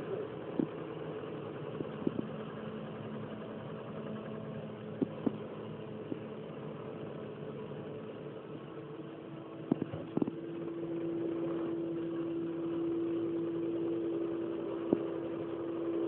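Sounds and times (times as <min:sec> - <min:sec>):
farm machinery engine drone: 0:00.0 - 0:16.0.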